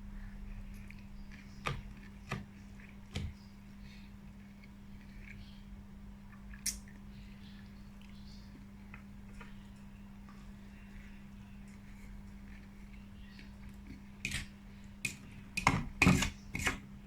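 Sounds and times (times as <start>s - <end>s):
steady low hum: 0.0s - 17.0s
chewing salad crackles: 0.2s - 16.9s.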